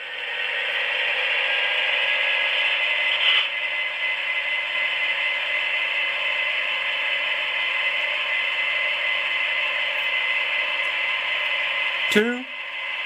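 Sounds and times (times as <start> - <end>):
diesel engine sound from small speakers: 0.0 - 13.0.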